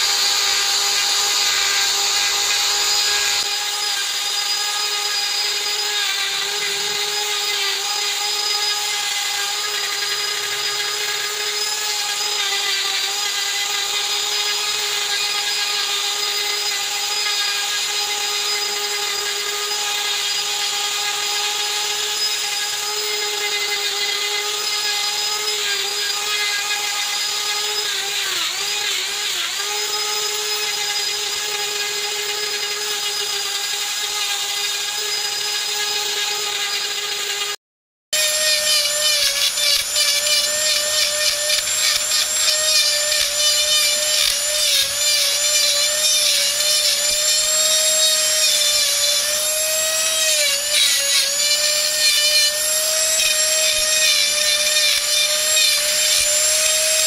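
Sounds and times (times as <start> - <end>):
rotary tool grinding wood: 0.0 - 37.6, 38.2 - 57.0.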